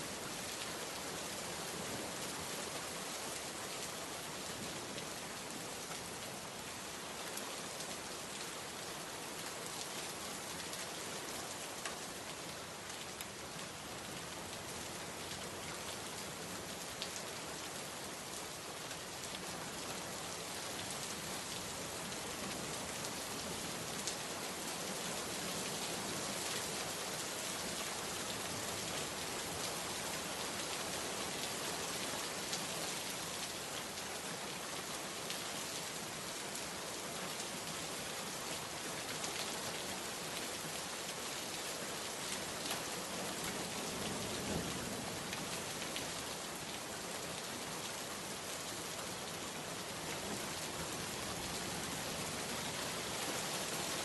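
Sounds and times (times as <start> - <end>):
heavy rain falling: 0.1 - 54.0.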